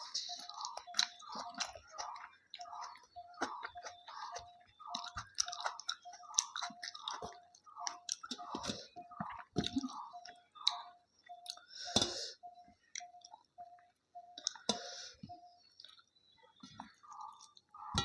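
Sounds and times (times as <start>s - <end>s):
chewing food: 0.0s - 18.0s.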